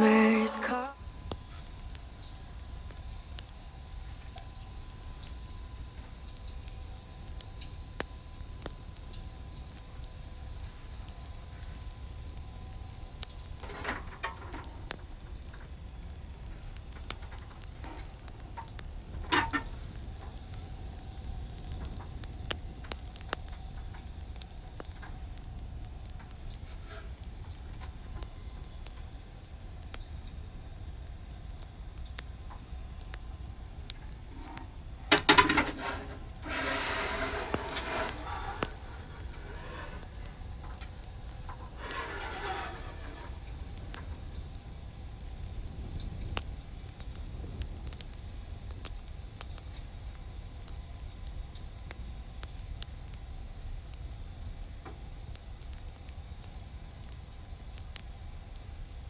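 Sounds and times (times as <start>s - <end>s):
wood fire crackling: 0.0s - 59.0s
fire pops: 1.2s - 59.0s.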